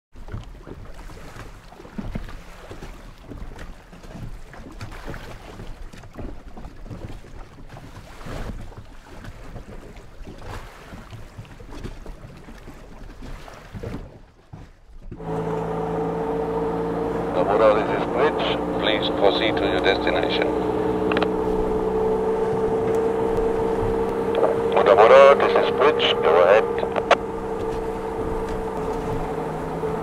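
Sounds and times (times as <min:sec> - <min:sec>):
water sloshing and splashing: 0:00.2 - 0:24.9, 0:25.6 - 0:30.0
motorboat engine running: 0:00.2 - 0:30.0.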